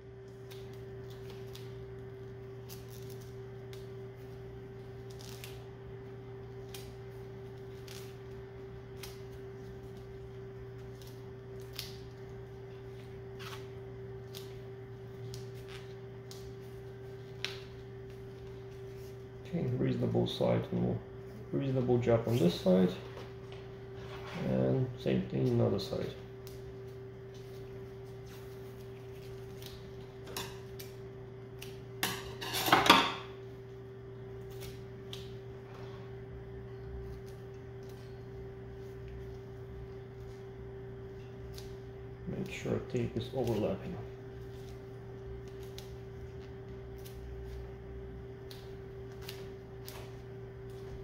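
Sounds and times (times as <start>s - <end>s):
low background hum: 0.0s - 51.0s
tape crackling and clicking: 0.2s - 20.1s, 25.0s - 32.3s, 34.3s - 35.6s, 36.6s - 51.0s.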